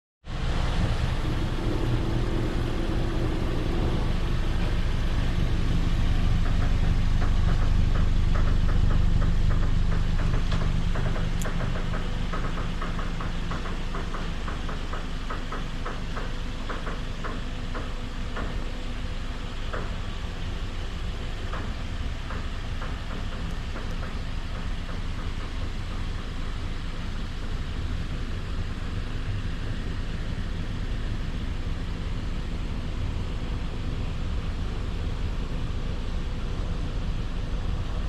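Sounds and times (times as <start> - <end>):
car engine idling: 0.2 - 38.0.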